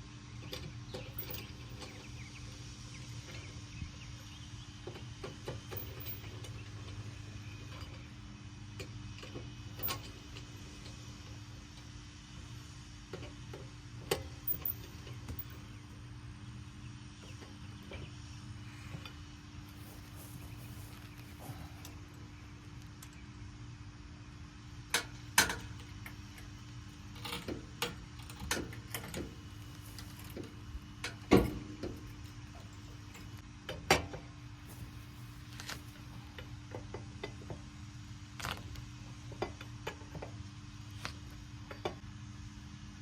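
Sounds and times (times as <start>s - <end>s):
steady low hum: 0.8s - 33.5s, 34.5s - 36.6s.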